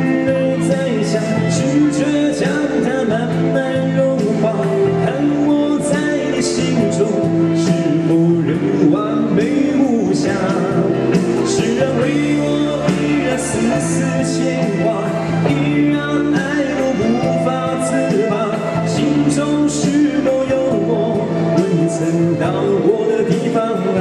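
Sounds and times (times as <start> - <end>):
guitar: 0.0 - 24.0
man singing into a microphone: 0.0 - 24.0.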